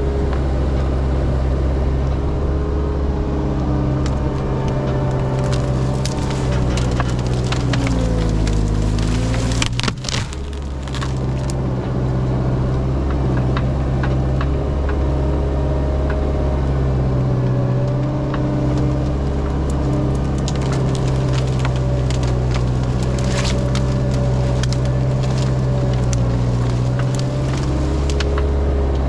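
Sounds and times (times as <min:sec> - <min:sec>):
diesel engine under load: 0:00.0 - 0:29.0
wood snapping and splintering: 0:03.6 - 0:29.0.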